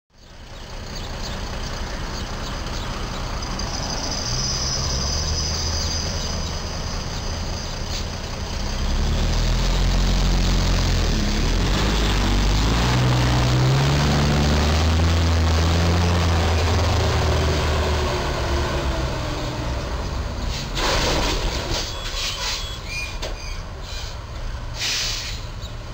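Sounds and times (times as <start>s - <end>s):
street traffic: 0.1s - 25.9s
truck diesel engine: 0.1s - 25.9s.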